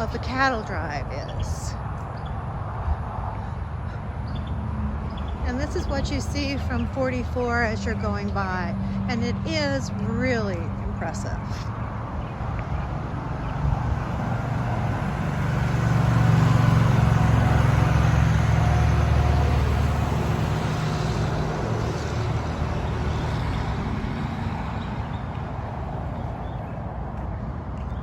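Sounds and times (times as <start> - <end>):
vehicle passing: 0.0 - 28.0.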